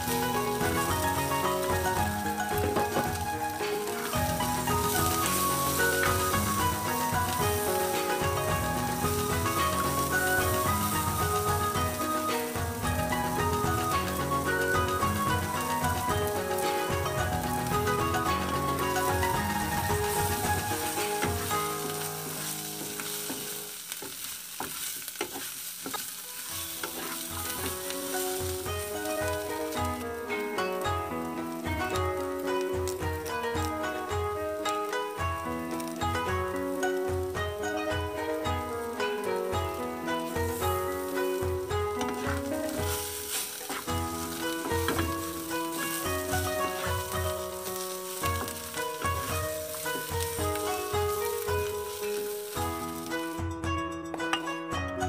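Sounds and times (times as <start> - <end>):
meat and vegetables sizzling in pan: 0.0 - 53.6
faint background music: 0.0 - 55.0.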